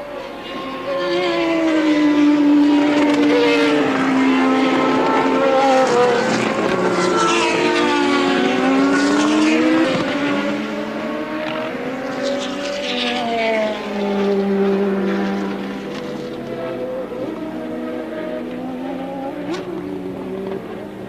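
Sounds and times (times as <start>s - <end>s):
race car engines at high revs: 0.0s - 21.0s.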